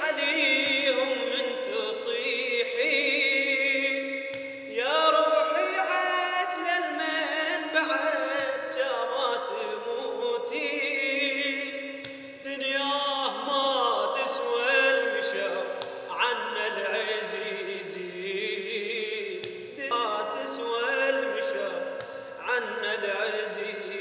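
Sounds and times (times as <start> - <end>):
man singing a slow chant: 0.0 - 24.0.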